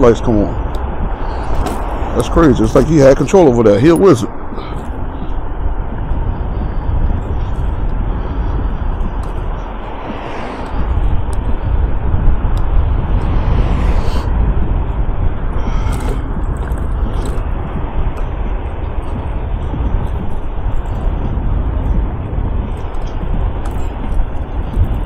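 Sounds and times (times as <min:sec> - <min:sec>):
scooter tyre and road noise: 0:00.0 - 0:25.0
wind rumble on microphone: 0:00.0 - 0:25.0.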